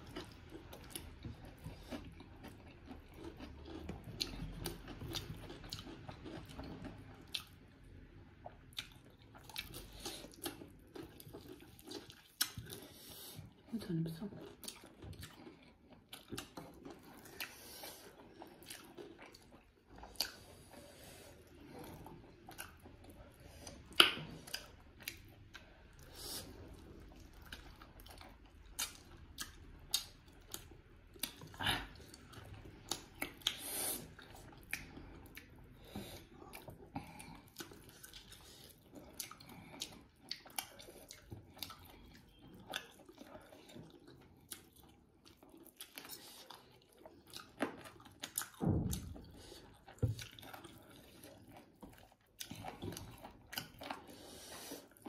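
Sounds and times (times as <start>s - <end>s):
people chewing and biting: 0.0s - 55.0s.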